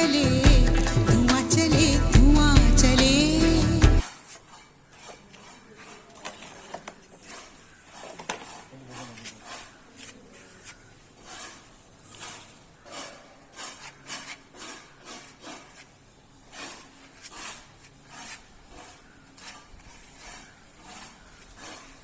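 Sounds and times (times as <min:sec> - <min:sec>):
hand tool scraping masonry: 0:04.0 - 0:22.0.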